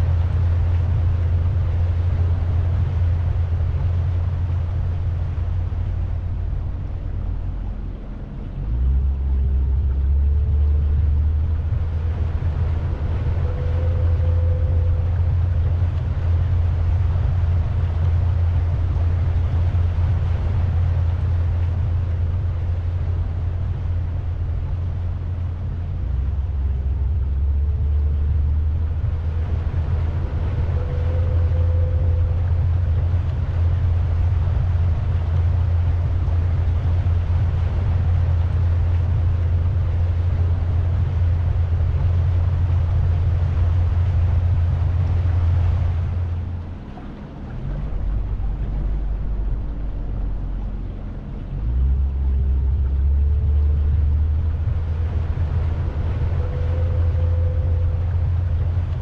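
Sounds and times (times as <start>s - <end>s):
boat engine rumble: 0.0s - 59.0s.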